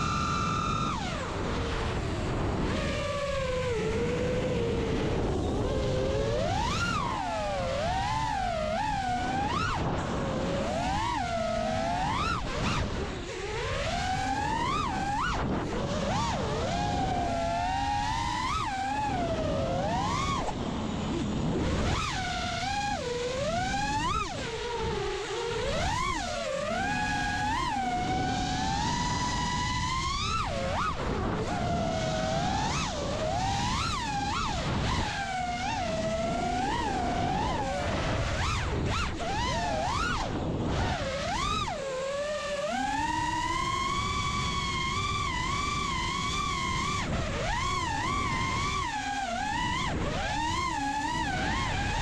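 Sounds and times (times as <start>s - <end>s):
quadcopter motors whining: 0.0s - 52.0s.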